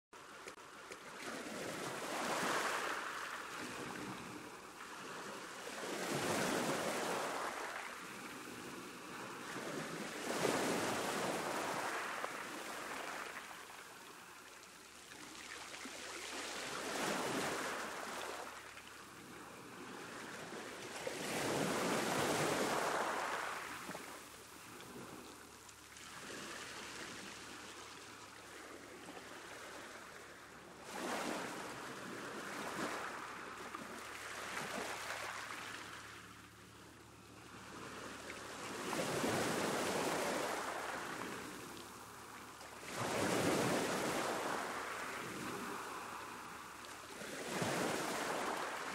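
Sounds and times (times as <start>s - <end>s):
ocean waves breaking on shore: 0.2s - 48.9s.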